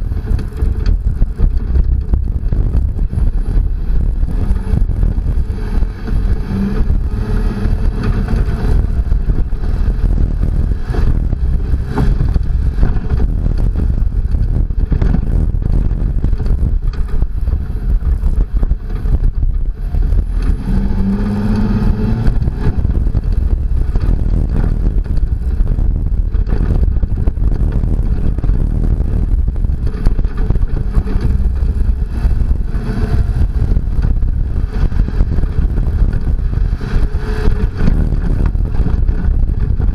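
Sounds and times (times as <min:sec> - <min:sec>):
engine revving: 0:00.0 - 0:39.9
pickup truck driving on dirt: 0:00.0 - 0:39.9.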